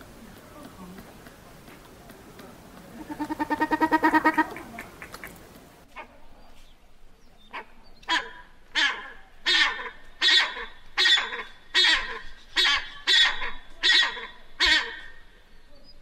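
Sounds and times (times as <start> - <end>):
pheasant calling: 0.0 - 16.0.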